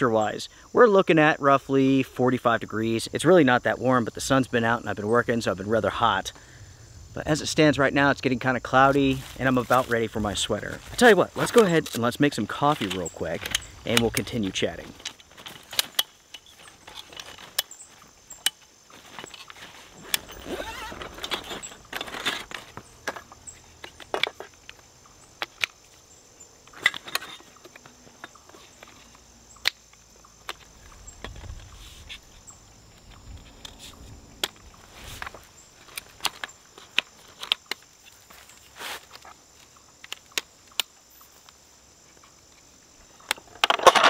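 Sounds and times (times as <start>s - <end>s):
insects chirping: 0.0s - 44.0s.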